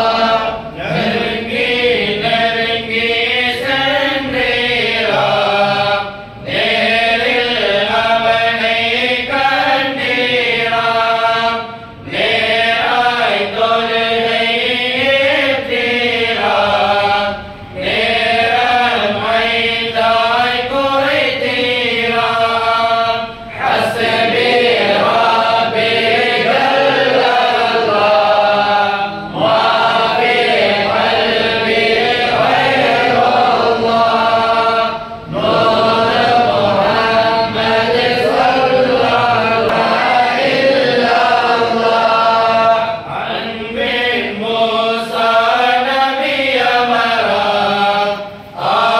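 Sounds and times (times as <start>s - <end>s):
men and boys chanting together: 0.0s - 48.9s.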